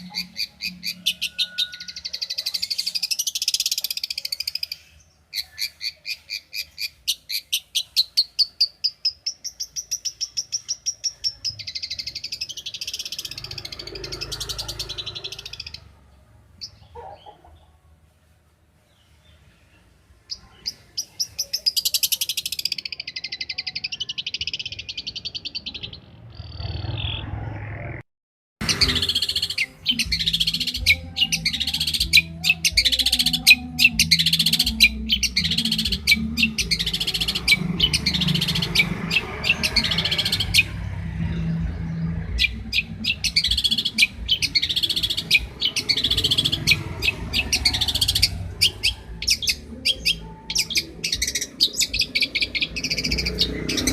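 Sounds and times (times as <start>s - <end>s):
bird chattering song: 0.0s - 15.9s, 19.0s - 27.4s, 28.6s - 53.9s.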